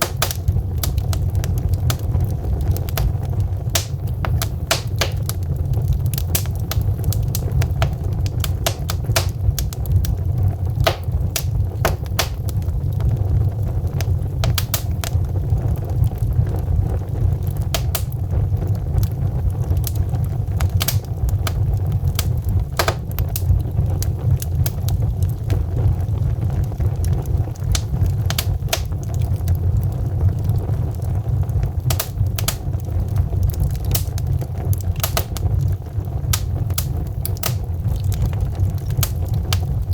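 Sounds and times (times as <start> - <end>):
wood logs crackling in fireplace: 0.0 - 39.9.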